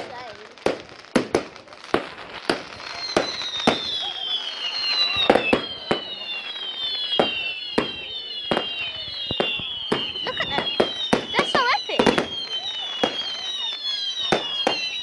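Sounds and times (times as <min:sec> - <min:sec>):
firework bangs: 0:00.0 - 0:15.0
firework whistles sliding down: 0:02.0 - 0:15.0.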